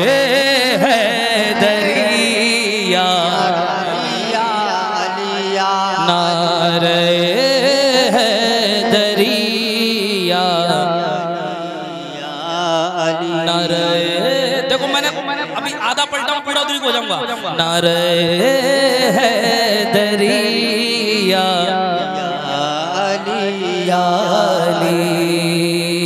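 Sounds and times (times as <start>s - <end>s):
man singing through microphone: 0.0s - 26.0s.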